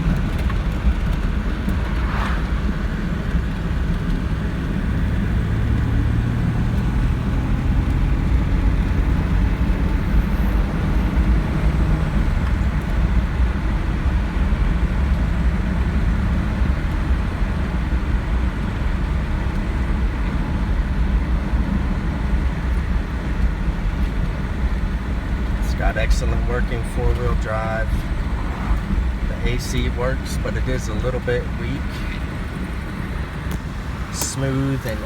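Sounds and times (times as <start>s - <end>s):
car engine running: 0.0s - 35.0s
tyre and road noise: 0.0s - 35.0s.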